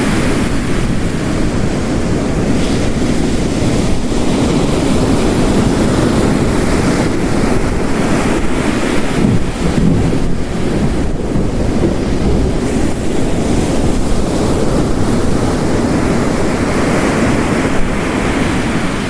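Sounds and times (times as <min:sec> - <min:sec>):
heavy rain hissing: 0:00.0 - 0:19.0
ocean waves crashing on rocks: 0:00.0 - 0:19.0.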